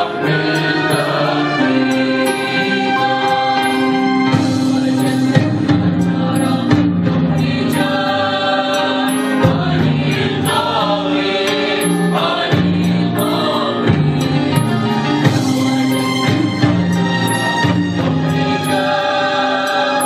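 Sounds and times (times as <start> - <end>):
choir singing a hymn: 0.0 - 20.0
sustained keyboard accompaniment: 0.0 - 20.0.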